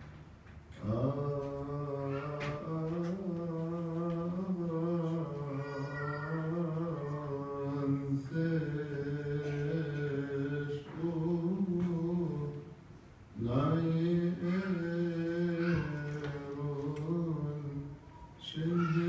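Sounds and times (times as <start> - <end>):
man chanting into microphone: 0.8 - 12.8, 13.4 - 19.0.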